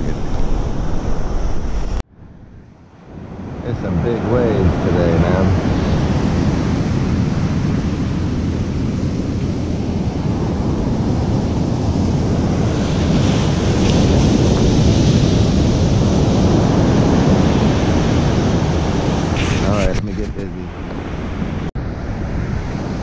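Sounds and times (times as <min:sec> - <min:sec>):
wind buffeting microphone: 0:00.0 - 0:23.0
ocean surf breaking: 0:02.9 - 0:23.0.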